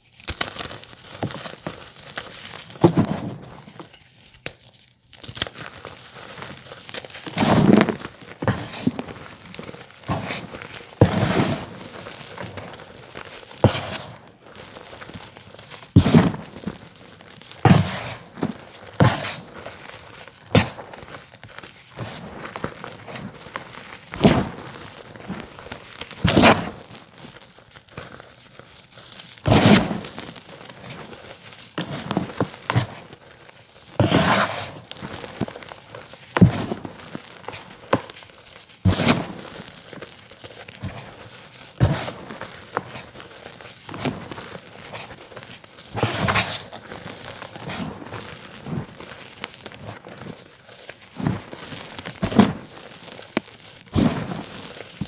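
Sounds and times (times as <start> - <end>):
chalk crunching by hand: 0.0 - 55.0
faint chalk crumbling: 0.0 - 55.0.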